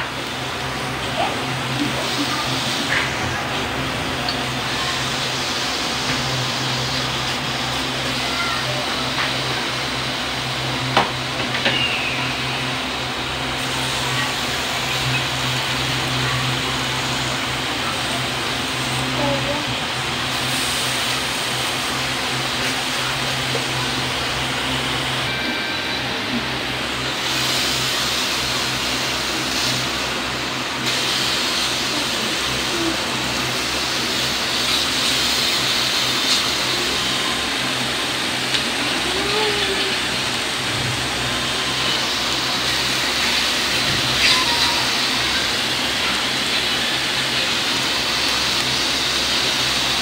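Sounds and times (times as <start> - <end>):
meat sizzling on grill plate: 0.1 - 50.0.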